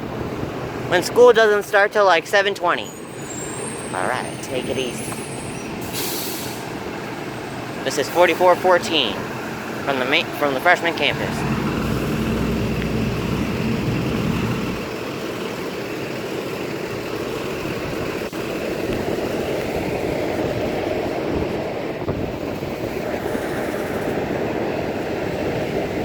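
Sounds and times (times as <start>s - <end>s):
bus running: 0.0s - 26.0s.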